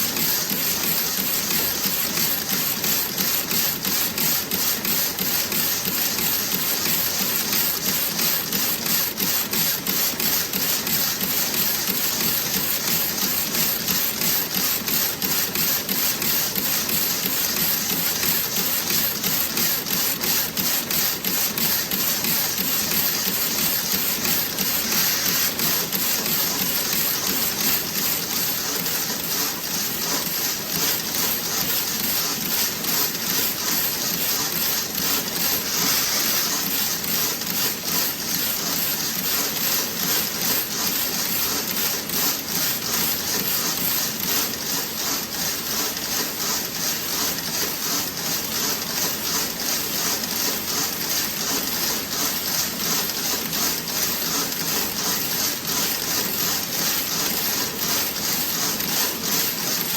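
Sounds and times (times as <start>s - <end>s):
knitting machine clatter: 0.0s - 59.9s.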